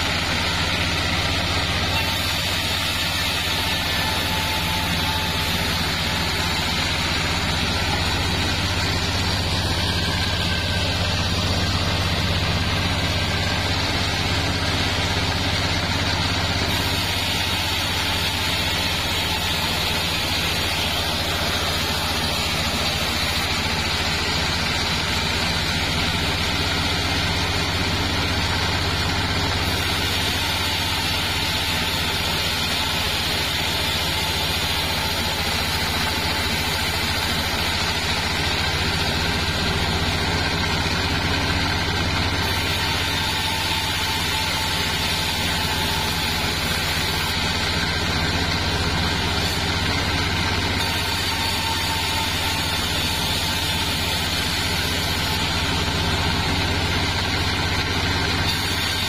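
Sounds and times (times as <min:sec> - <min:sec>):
band saw cutting log: 0:00.0 - 0:59.0
engine humming: 0:00.0 - 0:59.0.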